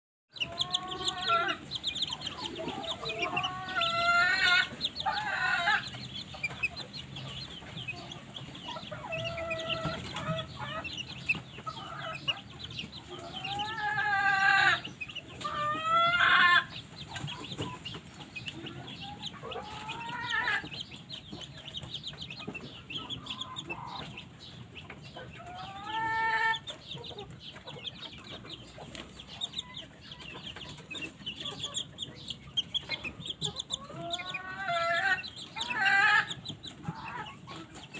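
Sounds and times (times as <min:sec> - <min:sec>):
chickens clucking: 0:00.3 - 0:37.9.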